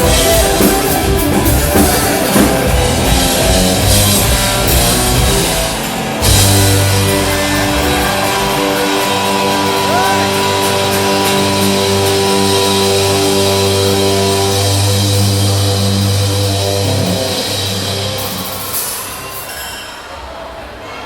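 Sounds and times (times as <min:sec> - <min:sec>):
electric guitar: 0:00.0 - 0:19.3
live pop-rock band music: 0:00.0 - 0:19.6
drums: 0:00.0 - 0:20.3.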